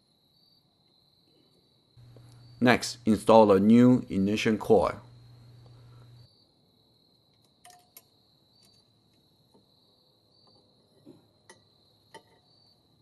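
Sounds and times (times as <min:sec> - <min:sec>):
faint high-pitched whine: 0:00.0 - 0:13.0.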